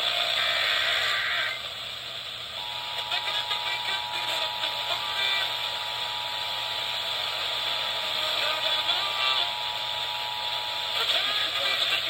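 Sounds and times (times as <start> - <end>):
broadcast static hiss: 0.0 - 12.0.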